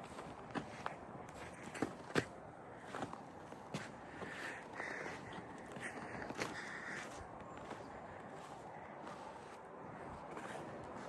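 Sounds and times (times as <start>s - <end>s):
footsteps in snow: 0.0s - 11.0s.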